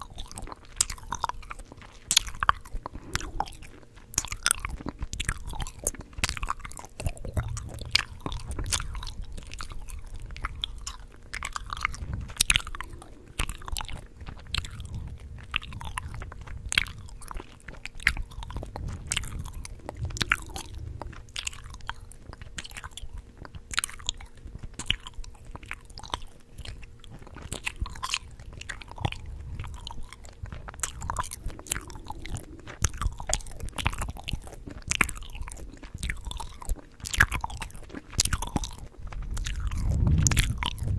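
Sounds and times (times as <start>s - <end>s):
gum chewing mouth smacks: 0.0s - 40.9s.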